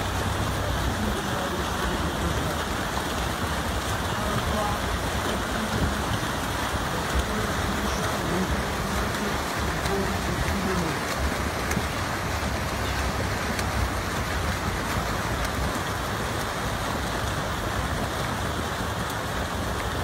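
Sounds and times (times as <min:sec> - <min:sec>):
swimmers splashing: 0:00.0 - 0:20.0.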